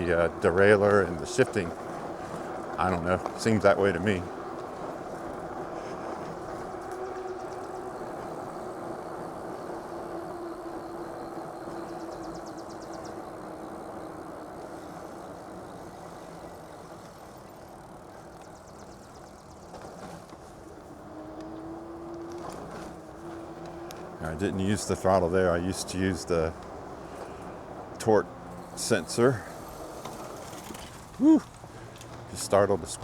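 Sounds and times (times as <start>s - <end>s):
wind and tyre noise: 0.0s - 33.0s
electric bike motor whine: 3.4s - 32.2s.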